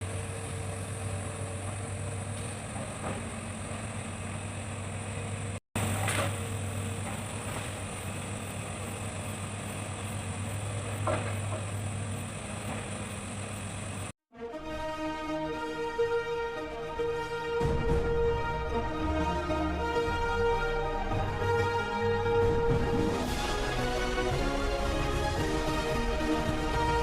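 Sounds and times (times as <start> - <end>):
excavator diesel engine humming: 0.0 - 14.1, 16.6 - 27.0.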